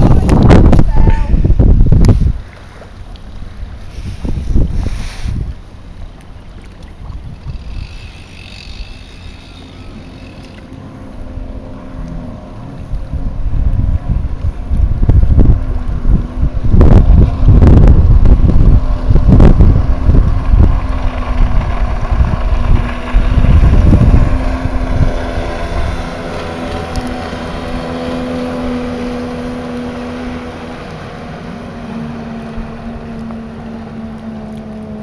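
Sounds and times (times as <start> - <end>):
wind buffeting microphone: 0.0 - 2.5, 3.4 - 5.9, 6.9 - 35.0
jet ski engine droning: 0.0 - 35.0.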